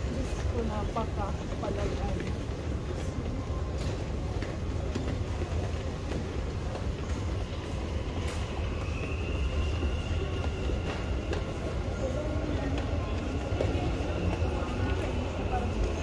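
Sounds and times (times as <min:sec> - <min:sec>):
train running low rumble: 0:00.0 - 0:16.0.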